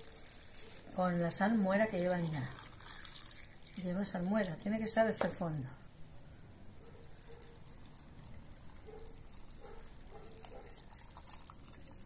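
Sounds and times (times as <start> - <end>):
liquid trickling into a glass jar: 0.0 - 12.0.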